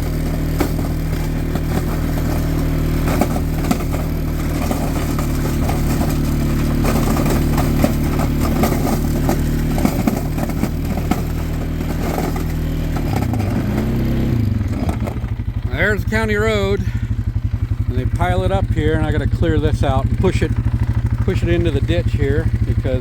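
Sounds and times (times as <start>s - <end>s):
plow clattering and scraping: 0.0s - 23.0s
small engine running: 0.0s - 23.0s.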